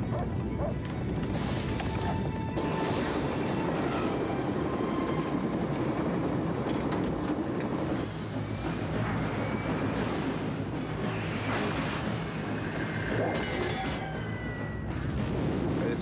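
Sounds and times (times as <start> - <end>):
film score music: 0.0 - 16.0.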